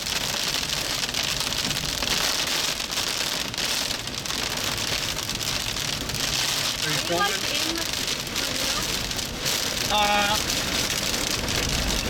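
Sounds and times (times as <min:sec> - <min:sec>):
heavy rain on vehicle roof: 0:00.0 - 0:12.0.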